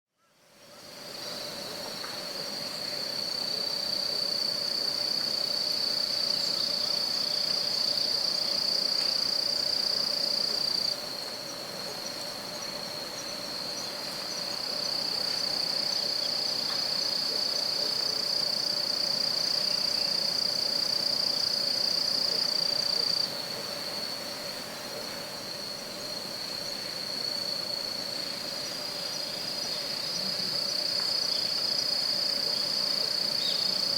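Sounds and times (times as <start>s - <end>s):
crickets trilling: 0.2s - 33.9s.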